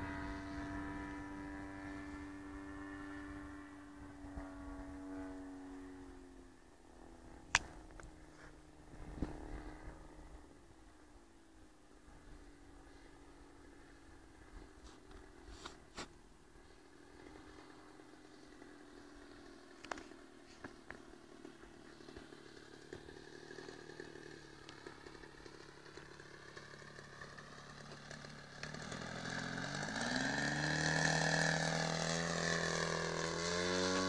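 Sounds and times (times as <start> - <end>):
propeller plane engine: 0.0 - 34.0.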